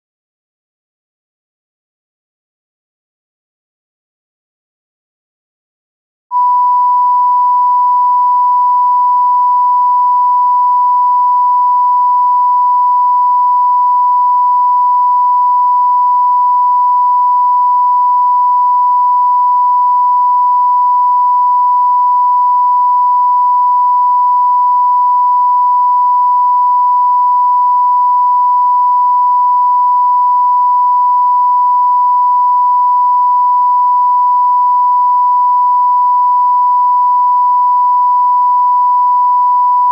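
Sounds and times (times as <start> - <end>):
sine test tone: 6.3 - 39.9.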